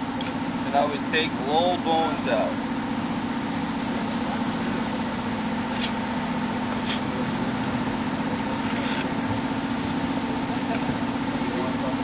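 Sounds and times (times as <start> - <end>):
mechanical hum of motor: 0.0 - 12.0.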